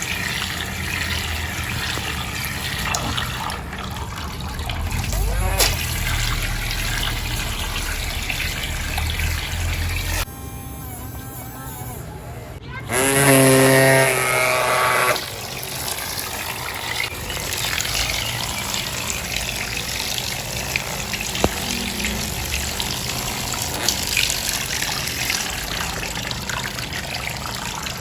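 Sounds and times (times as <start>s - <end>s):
water running and splashing: 0.0s - 10.3s, 13.6s - 28.0s.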